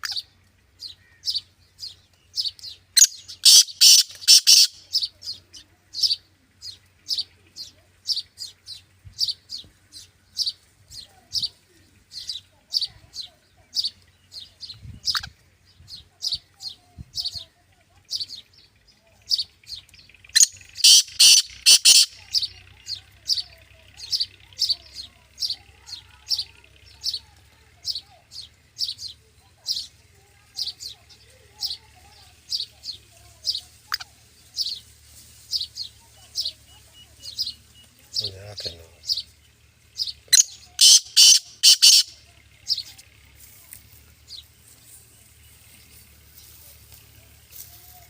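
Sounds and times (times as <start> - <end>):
bird calling high chirps: 0.0 - 48.0.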